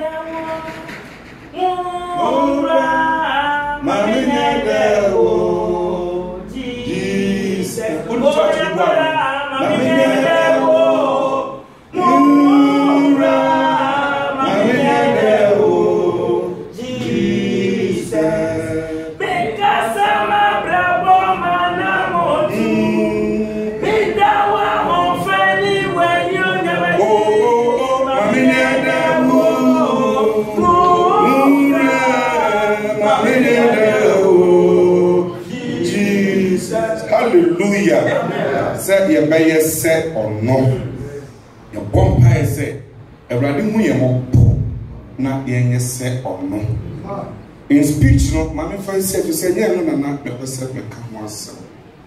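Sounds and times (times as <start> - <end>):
congregation singing a hymn: 0.0 - 42.7.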